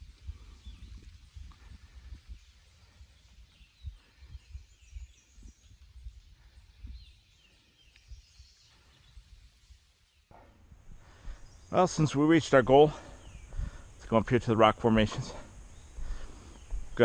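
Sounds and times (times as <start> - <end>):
songbird calling: 2.3 - 17.0.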